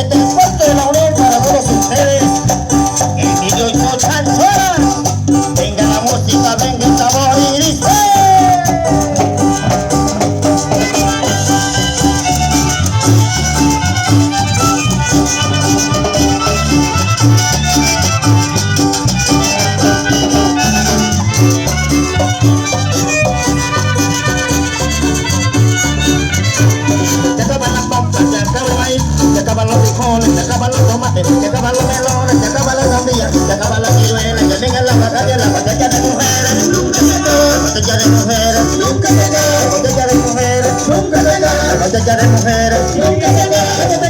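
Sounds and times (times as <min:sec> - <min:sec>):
live band playing cumbia: 0:00.0 - 0:44.0.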